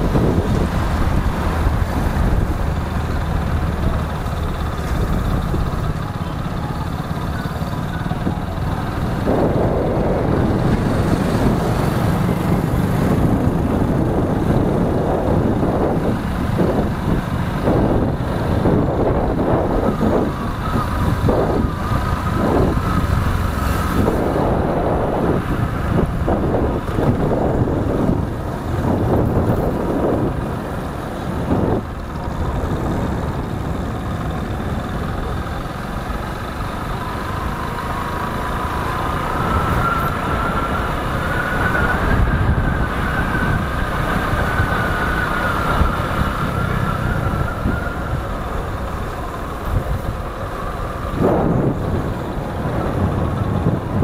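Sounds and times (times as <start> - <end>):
traffic rumble: 0.0 - 54.0
vehicle engine running: 0.0 - 54.0.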